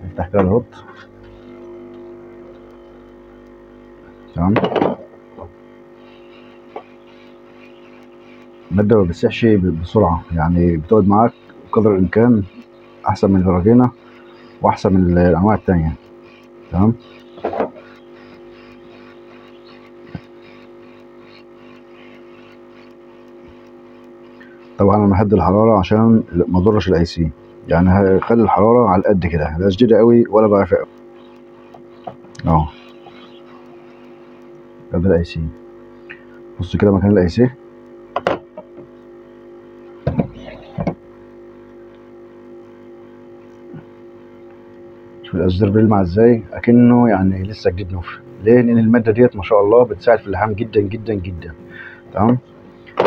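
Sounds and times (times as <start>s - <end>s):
hot air gun fan hum: 0.0s - 53.0s.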